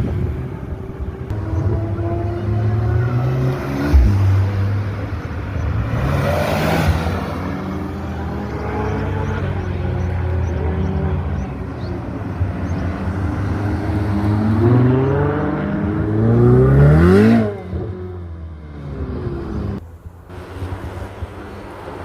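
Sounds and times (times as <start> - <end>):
car engine accelerating: 1.3 - 19.8.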